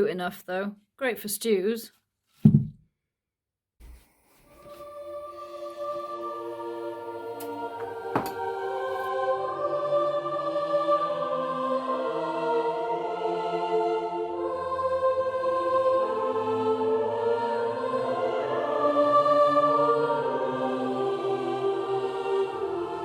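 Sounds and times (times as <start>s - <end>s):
slow choral music: 4.3s - 23.0s.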